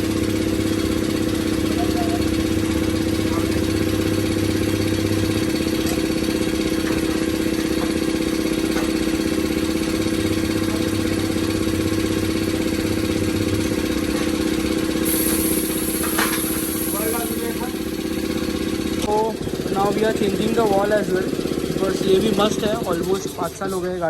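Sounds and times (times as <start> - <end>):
motor droning steadily: 0.0 - 24.0.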